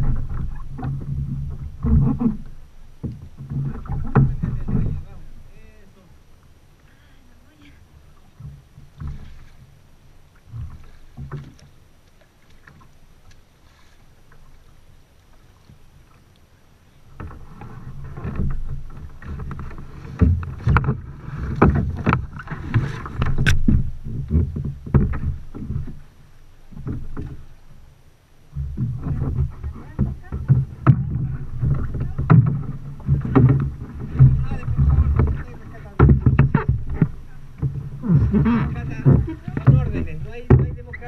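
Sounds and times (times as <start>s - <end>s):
paddle splashing and knocking: 0.0s - 41.0s.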